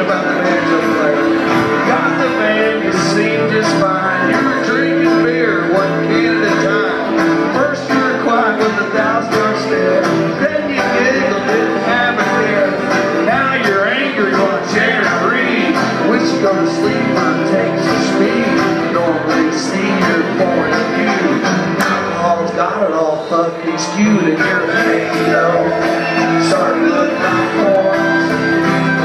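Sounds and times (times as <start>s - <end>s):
fiddle melody: 0.0s - 29.0s
strummed acoustic guitar: 0.0s - 29.0s.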